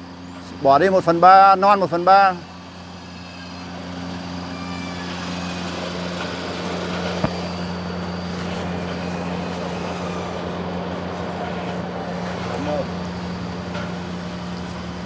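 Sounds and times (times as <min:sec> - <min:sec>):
motor drone: 0:00.0 - 0:15.0.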